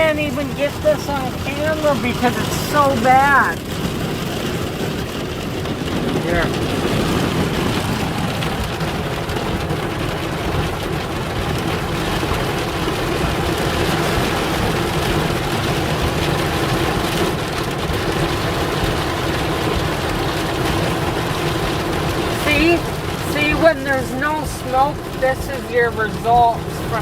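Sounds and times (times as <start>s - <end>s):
heavy rain beating on a van: 0.0s - 27.0s.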